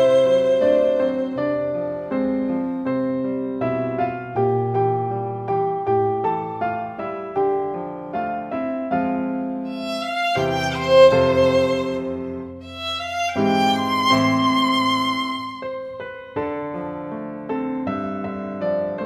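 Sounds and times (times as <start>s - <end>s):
slow instrumental melody: 0.0s - 8.3s, 8.9s - 17.6s.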